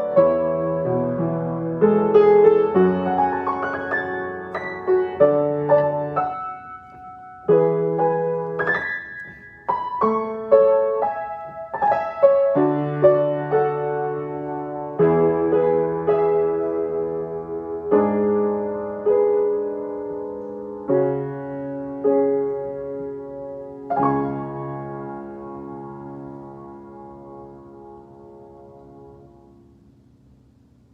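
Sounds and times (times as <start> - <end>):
slow solo piano piece: 0.0 - 30.9.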